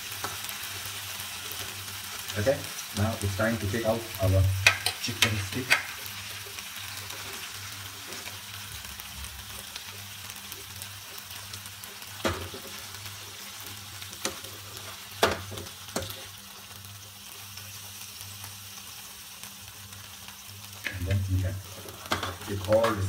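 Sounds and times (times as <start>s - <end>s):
sauce sizzling in frying pan: 0.0s - 23.0s.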